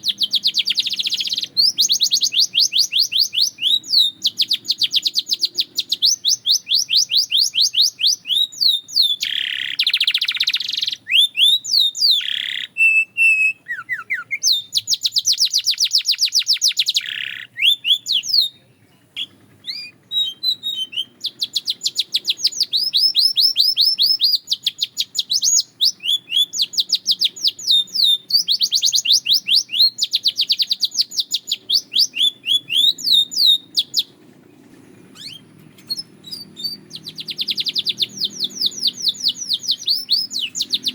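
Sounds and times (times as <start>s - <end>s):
canary trilling: 0.0s - 34.2s, 35.1s - 40.9s.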